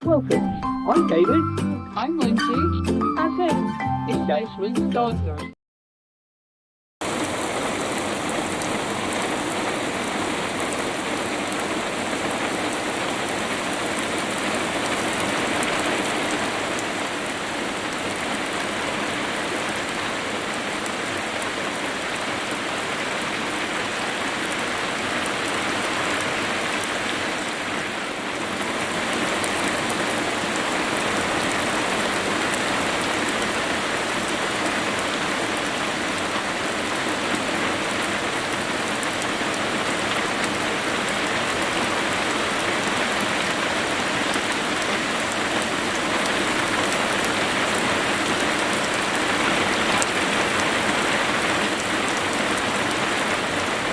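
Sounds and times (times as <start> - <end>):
steady rain falling: 7.0 - 53.9.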